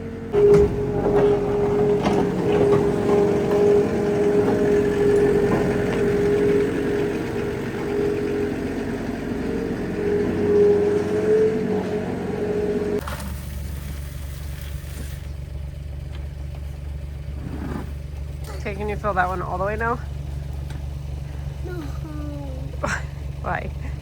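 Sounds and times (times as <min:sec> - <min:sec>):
engine droning hum: 0:00.0 - 0:24.0
low steady rumble: 0:00.0 - 0:24.0.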